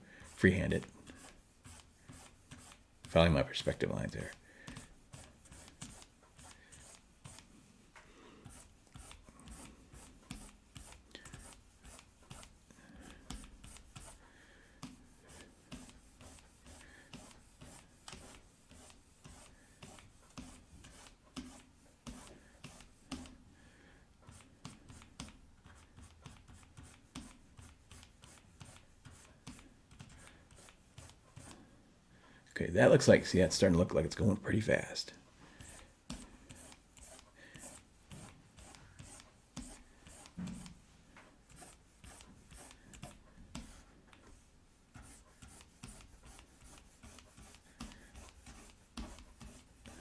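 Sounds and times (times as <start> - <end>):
stylus scratching on tablet: 0.1 - 7.5, 8.4 - 23.4, 24.3 - 31.7, 32.8 - 50.0.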